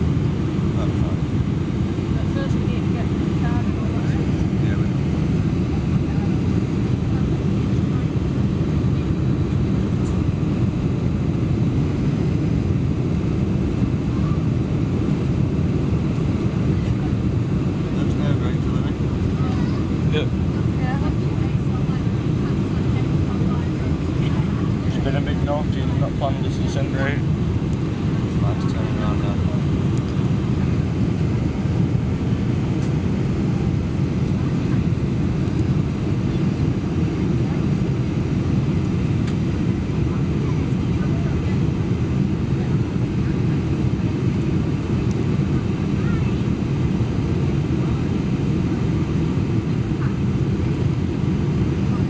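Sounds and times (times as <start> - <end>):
airplane cabin engine rush: 0.0 - 52.0.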